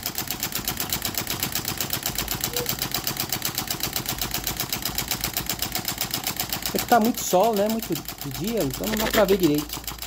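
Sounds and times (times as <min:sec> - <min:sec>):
small engine rapid knocking clatter: 0:00.0 - 0:10.0.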